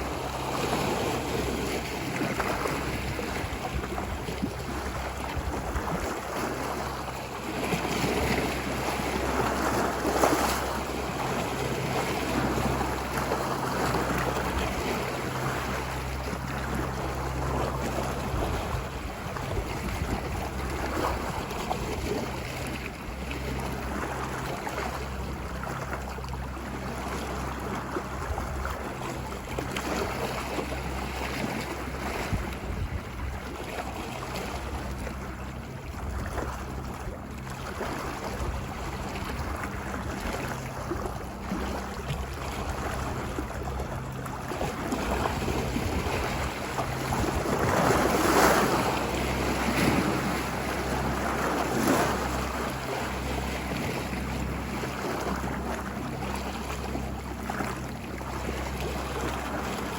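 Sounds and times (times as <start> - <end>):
ocean waves washing ashore: 0.0 - 59.9
steady low rumble: 0.0 - 59.9.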